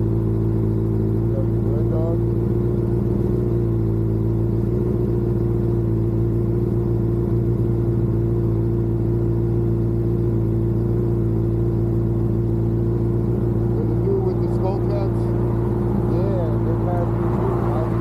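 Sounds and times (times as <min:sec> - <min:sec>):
road noise: 0:00.0 - 0:18.0
vehicle engine droning: 0:00.0 - 0:18.0.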